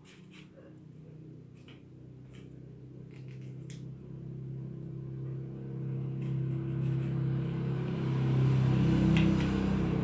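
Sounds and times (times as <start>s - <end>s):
vehicle engine hum: 0.6s - 10.0s.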